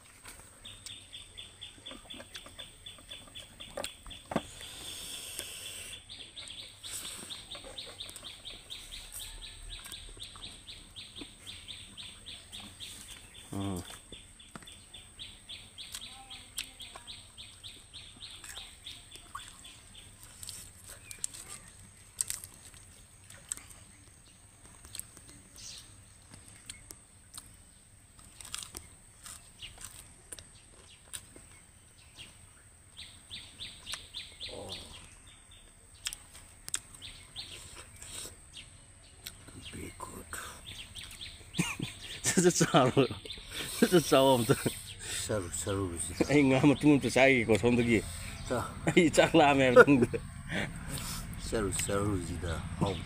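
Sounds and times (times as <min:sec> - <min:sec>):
small bird chirping: 0:00.2 - 0:53.0.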